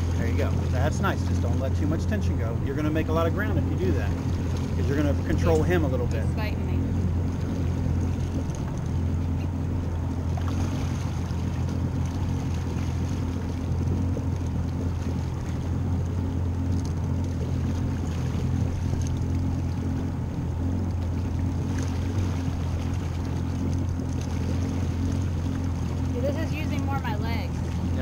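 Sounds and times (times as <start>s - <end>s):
boat engine humming: 0.0s - 28.0s
water wash: 0.0s - 28.0s.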